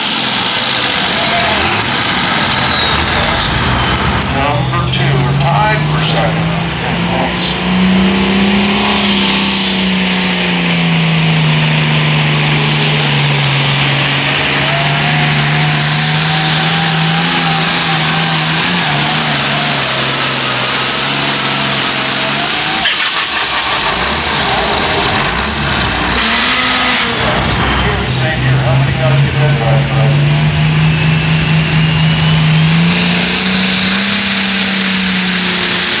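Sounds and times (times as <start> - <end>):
tractor diesel engine at full power: 0.0 - 36.0.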